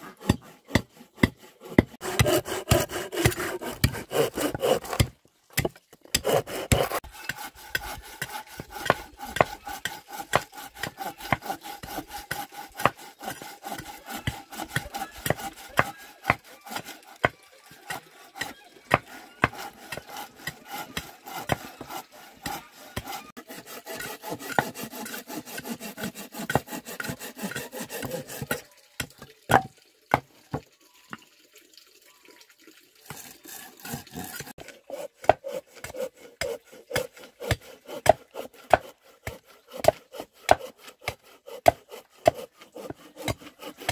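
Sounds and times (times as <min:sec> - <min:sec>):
hand saw rasping through log: 0:00.0 - 0:30.2, 0:33.0 - 0:43.9
machete chopping wood: 0:00.2 - 0:17.4, 0:18.4 - 0:23.2, 0:23.9 - 0:28.6, 0:29.5 - 0:30.2, 0:35.2 - 0:43.9.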